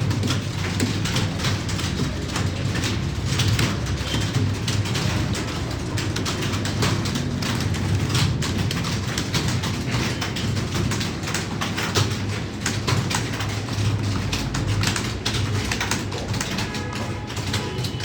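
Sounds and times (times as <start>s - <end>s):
keyboards typing clatter: 0.0s - 18.0s.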